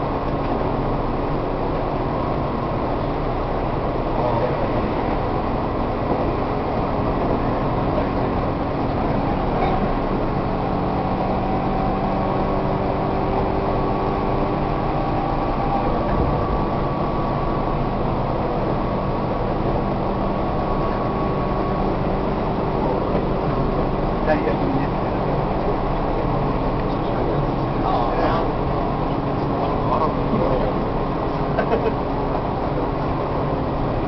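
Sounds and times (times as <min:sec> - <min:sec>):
traction motor whine: 0:00.0 - 0:34.0
wheels roaring on rail: 0:00.0 - 0:34.0.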